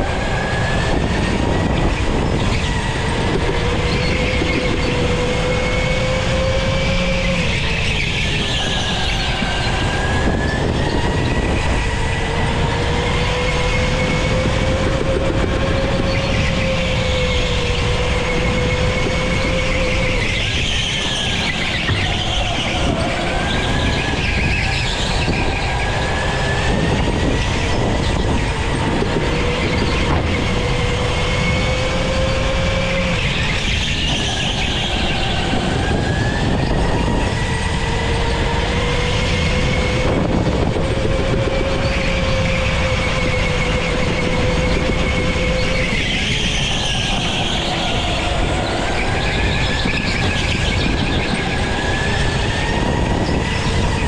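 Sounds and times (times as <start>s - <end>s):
go-kart motor whining: 0.0s - 54.0s
tyre and wind noise: 0.0s - 54.0s.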